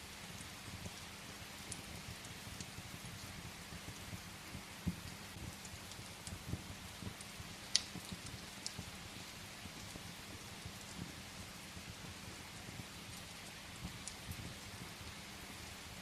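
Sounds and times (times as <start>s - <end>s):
steady rain: 0.0s - 16.0s
wood fire crackling: 0.0s - 16.0s.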